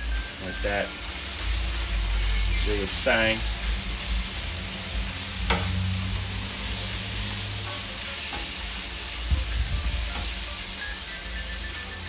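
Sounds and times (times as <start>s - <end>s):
food sizzling on griddle: 0.0s - 12.0s.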